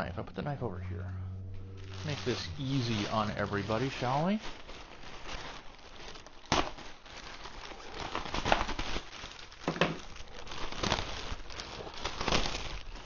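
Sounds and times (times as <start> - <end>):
plastic bag crinkling: 1.8 - 13.0.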